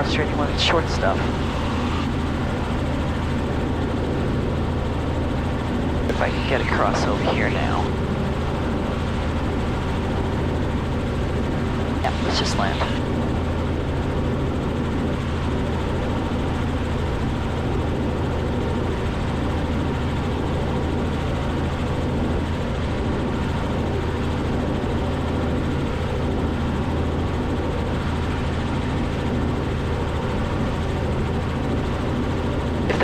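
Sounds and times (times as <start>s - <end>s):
helicopter engine and rotor drone: 0.0s - 33.0s.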